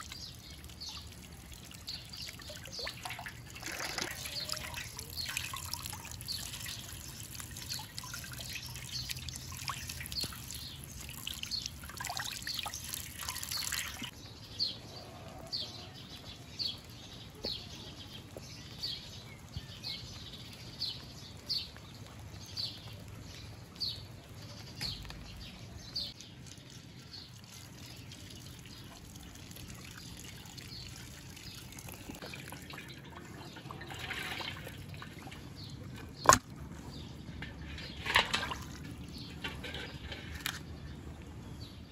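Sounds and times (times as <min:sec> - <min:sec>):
water dripping: 0:00.0 - 0:14.2, 0:16.1 - 0:40.5
water trickling: 0:00.0 - 0:24.6, 0:25.4 - 0:41.7.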